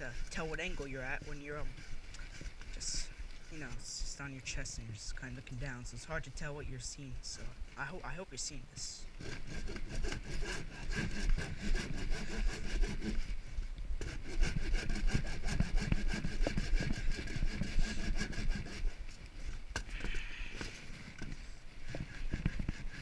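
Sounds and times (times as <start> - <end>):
sander scraping log bark: 0.0 - 5.8, 7.3 - 23.0.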